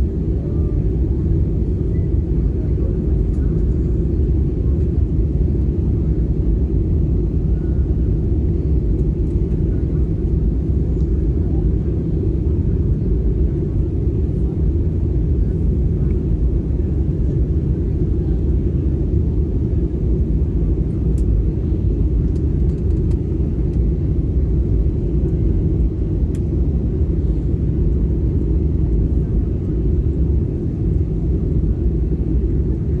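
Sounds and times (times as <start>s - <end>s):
airplane cabin rumble: 0.0s - 33.0s.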